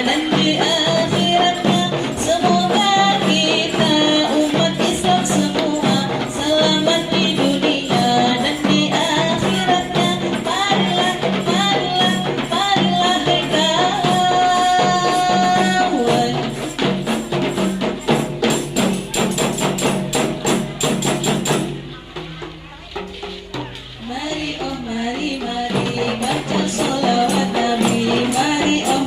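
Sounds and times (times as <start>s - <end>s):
frame drums playing quick beat: 0.0s - 29.0s.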